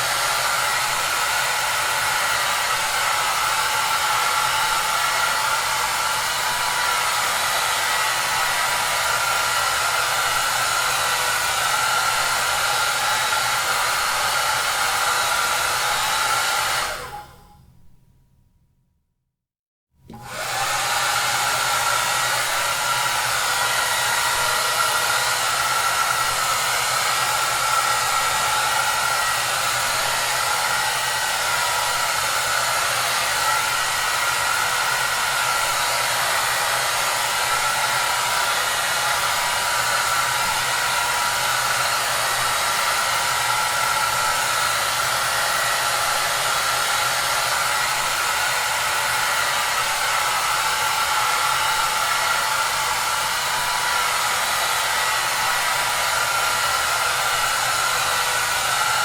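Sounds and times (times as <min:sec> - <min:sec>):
hair dryer running: 0:00.0 - 0:17.6, 0:20.1 - 0:59.0.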